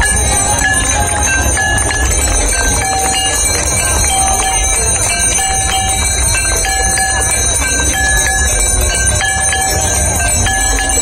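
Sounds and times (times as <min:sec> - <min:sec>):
temple bells clanging: 0:00.0 - 0:11.0.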